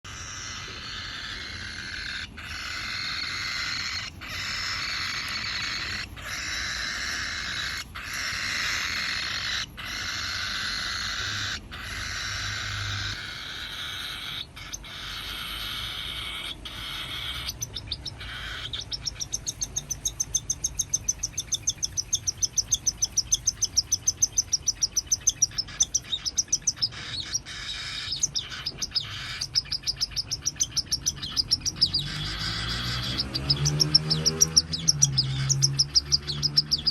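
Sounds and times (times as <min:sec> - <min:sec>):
bird chick raspy hissing calls: 0:00.1 - 0:36.9.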